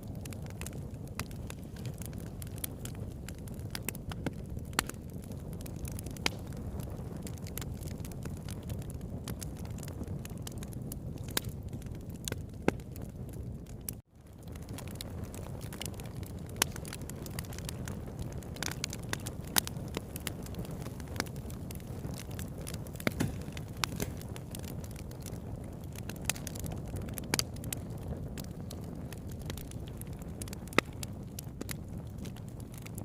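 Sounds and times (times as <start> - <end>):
campfire flames rushing: 0.0 - 33.0
fire crackling and popping: 0.0 - 33.0.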